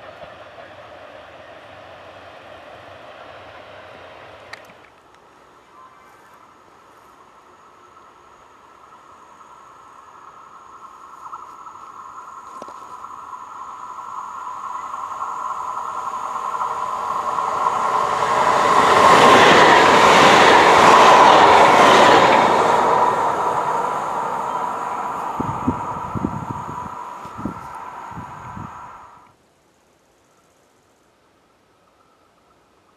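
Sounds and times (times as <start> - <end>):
train rolling noise: 0.0 - 29.4
steady high whine: 0.7 - 29.4.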